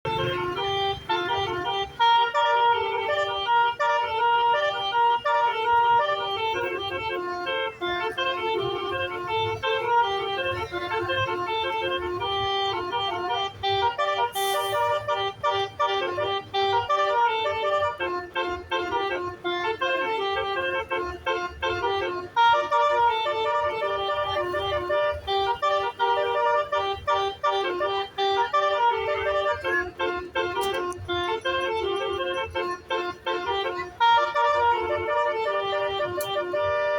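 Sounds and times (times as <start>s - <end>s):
musical bus horn melody: 0.0s - 36.9s.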